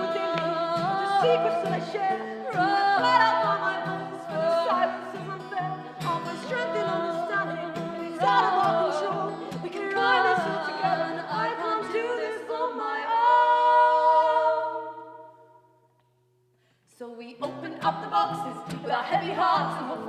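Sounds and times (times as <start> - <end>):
women singing in harmony: 0.0 - 15.6, 17.0 - 20.0
acoustic guitar: 0.0 - 20.0.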